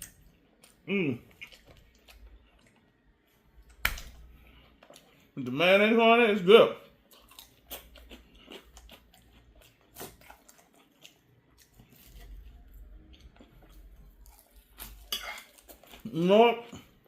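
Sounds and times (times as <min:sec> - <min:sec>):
person chewing food: 0:00.0 - 0:05.4, 0:06.8 - 0:17.0.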